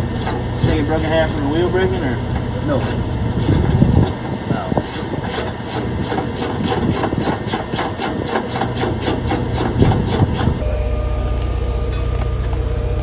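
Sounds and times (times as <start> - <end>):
rapid mechanical clicking: 0.0 - 10.6
low engine hum: 0.0 - 13.0.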